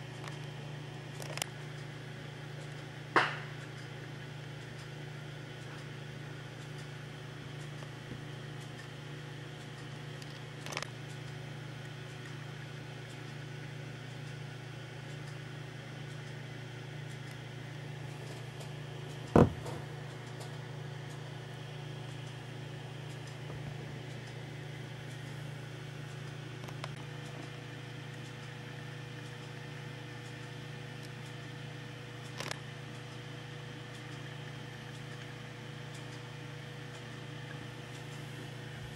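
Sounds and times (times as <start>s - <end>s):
low hum with hiss: 0.0s - 38.9s.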